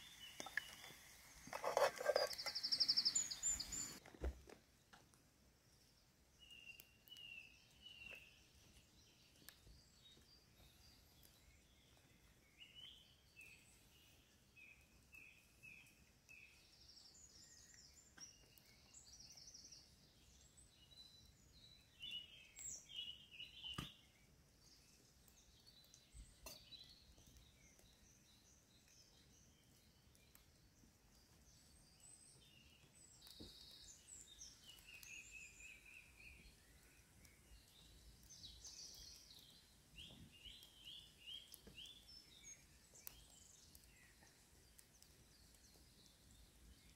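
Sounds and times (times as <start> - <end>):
faint birdsong chirps: 0.0 - 46.9.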